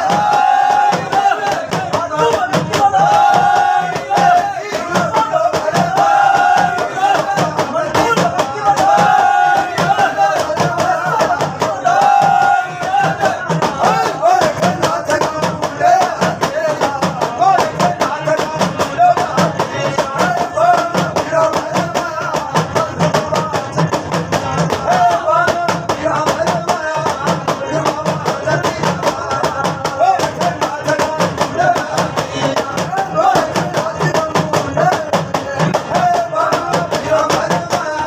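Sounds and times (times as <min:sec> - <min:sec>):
fast percussion beat: 0:00.0 - 0:38.0
person singing folk song: 0:00.0 - 0:38.0.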